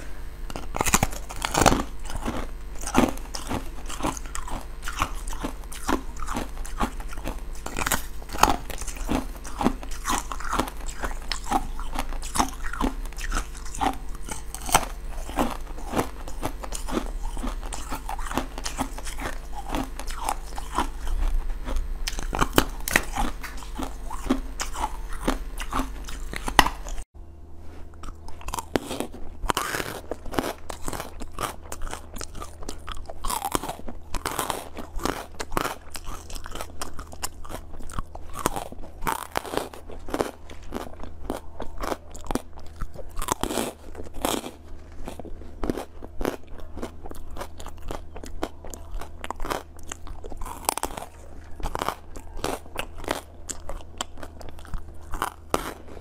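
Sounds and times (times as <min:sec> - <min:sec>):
crunchy candy chewing: 0:00.0 - 0:27.1, 0:27.8 - 0:56.0
biting into firm jelly: 0:00.4 - 0:27.0, 0:27.9 - 0:56.0.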